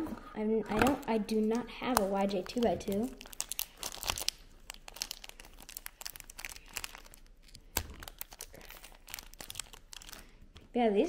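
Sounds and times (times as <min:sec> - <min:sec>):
plastic film crinkling: 0:00.7 - 0:10.8.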